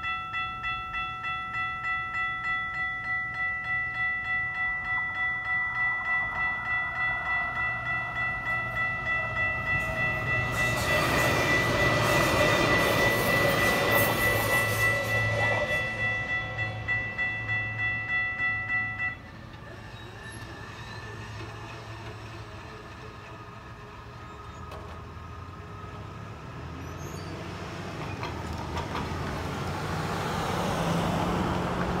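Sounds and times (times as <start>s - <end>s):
railroad crossing warning bell: 0.0s - 32.0s
road traffic rumble: 0.0s - 32.0s.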